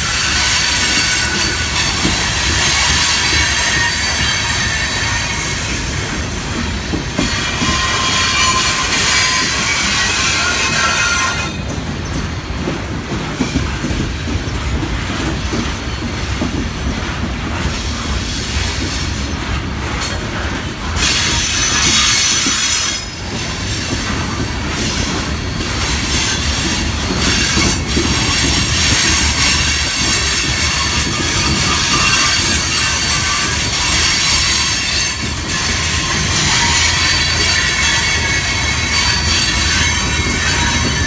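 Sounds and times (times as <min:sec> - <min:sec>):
steel wheels squealing on rails: 0:00.0 - 0:41.0
train low rumble: 0:00.0 - 0:41.0.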